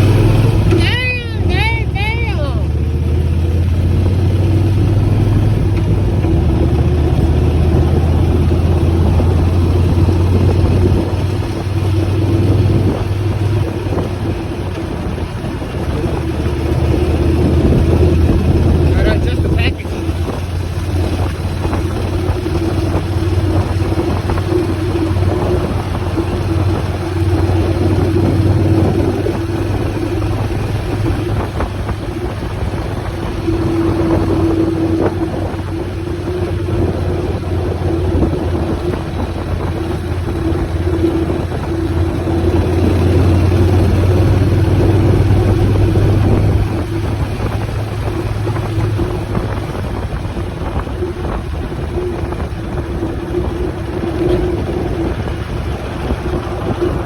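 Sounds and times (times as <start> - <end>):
motorcycle engine running: 0.0 - 57.0
wind rushing: 3.6 - 57.0.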